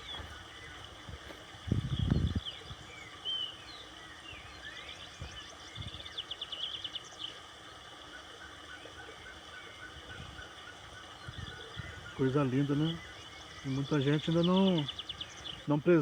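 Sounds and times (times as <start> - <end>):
birds singing and calling: 0.0 - 16.0
flowing water: 0.0 - 16.0.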